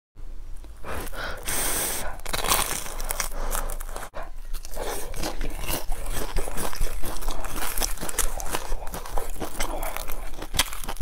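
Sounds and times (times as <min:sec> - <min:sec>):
crunchy chewing of fried bread: 0:00.6 - 0:11.0.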